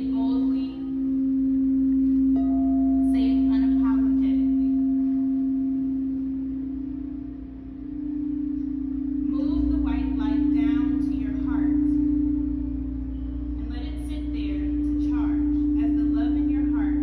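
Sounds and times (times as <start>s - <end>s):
higher singing bowl struck: 0.0s - 17.0s
singing bowl low tone: 0.0s - 17.0s.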